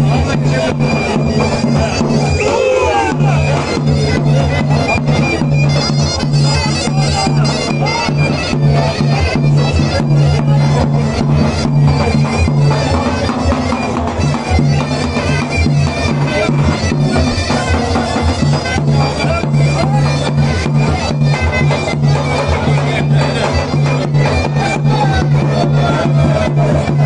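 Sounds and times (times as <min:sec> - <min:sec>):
reedy zurna melody: 0:00.0 - 0:27.0
steady drum beats: 0:00.0 - 0:27.0.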